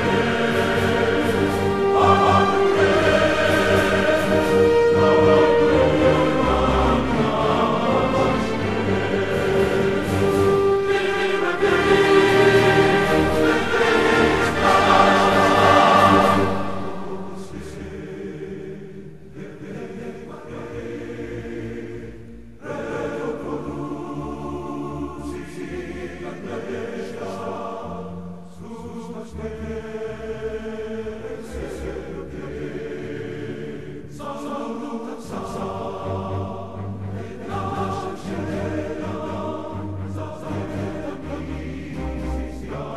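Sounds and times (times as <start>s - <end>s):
choir singing long held notes: 0.0s - 42.9s.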